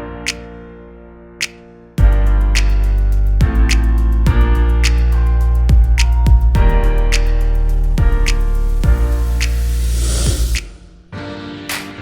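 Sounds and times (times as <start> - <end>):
background music with beat: 1.4 - 12.0.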